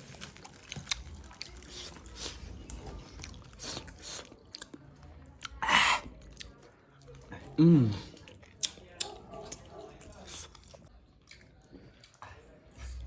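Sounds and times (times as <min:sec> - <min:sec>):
person chewing wetly: 0:00.0 - 0:12.8.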